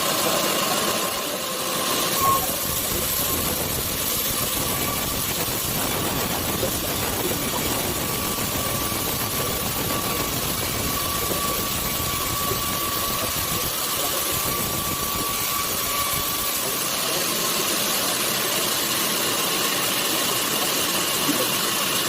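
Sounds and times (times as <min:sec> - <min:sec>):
motor drone: 0:00.0 - 0:22.0
thin machine whine: 0:00.0 - 0:22.0.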